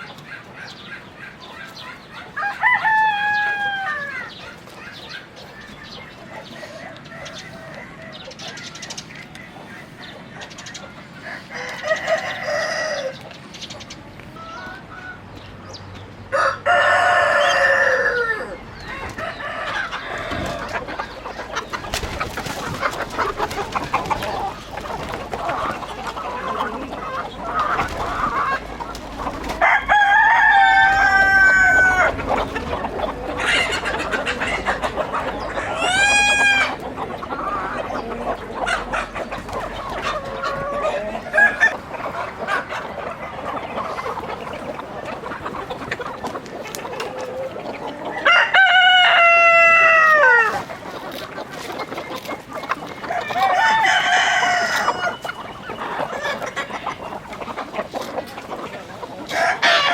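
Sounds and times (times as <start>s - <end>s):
roosters crowing: 0.0s - 13.5s, 14.3s - 59.9s
chickens clucking: 0.0s - 59.9s.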